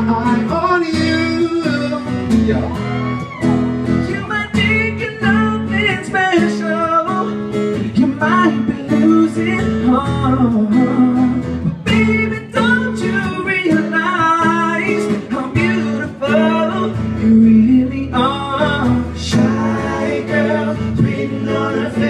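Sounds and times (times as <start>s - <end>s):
man singing pop ballad: 0.0s - 3.0s, 4.0s - 22.0s
strummed acoustic guitar: 0.0s - 22.0s.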